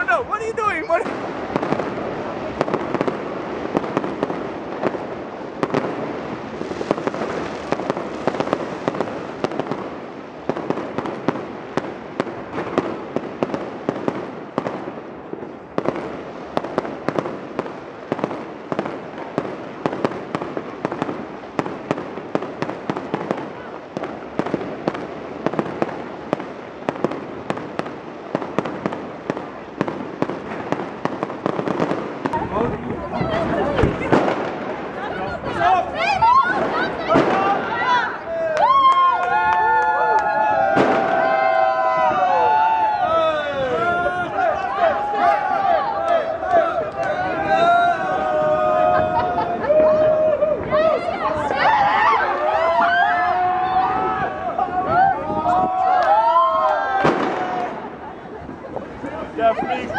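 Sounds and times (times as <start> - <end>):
fireworks cracking and banging: 0.0 - 59.9.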